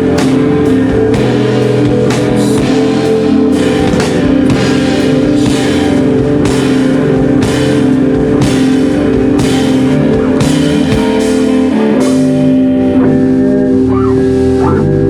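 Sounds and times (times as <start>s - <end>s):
steady drum beat: 0.0s - 14.8s
rock band playing live: 0.0s - 15.0s
sustained guitar chords: 0.0s - 15.0s.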